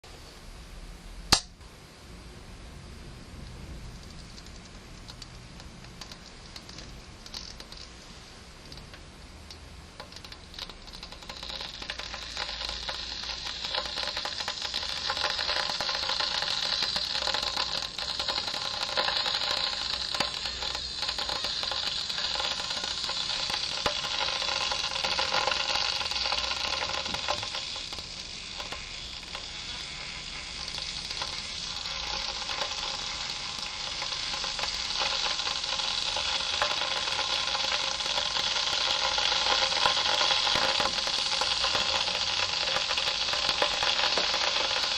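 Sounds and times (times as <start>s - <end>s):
kettle hissing and crackling: 0.0s - 44.9s.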